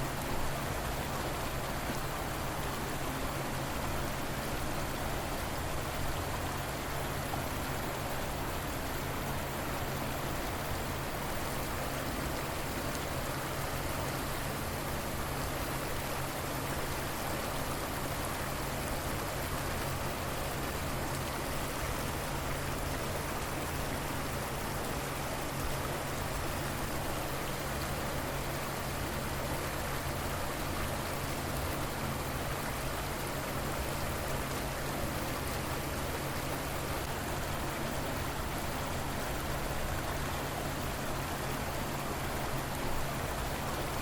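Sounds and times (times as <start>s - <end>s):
river water flowing: 0.0s - 44.0s.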